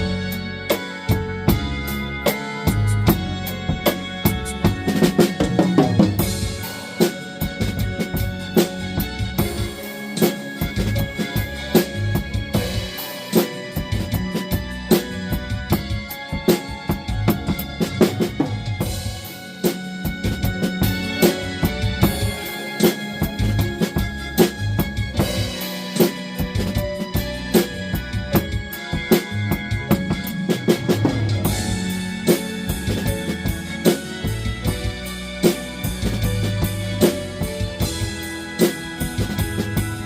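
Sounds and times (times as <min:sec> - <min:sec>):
bass drum and snare strokes: 0:00.0 - 0:40.0
blues backing track chords: 0:00.0 - 0:40.0.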